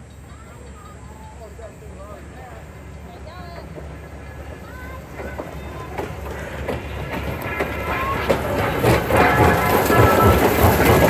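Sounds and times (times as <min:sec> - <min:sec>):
passenger train passing: 0:00.0 - 0:11.0
wheels clicking over rail joints: 0:00.0 - 0:11.0.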